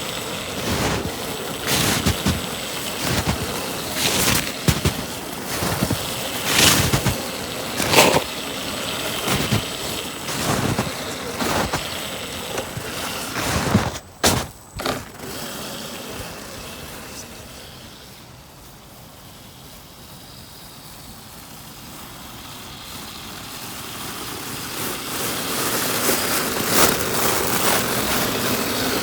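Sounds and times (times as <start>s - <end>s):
snow crunching and rustling: 0.0s - 17.8s, 22.7s - 29.0s.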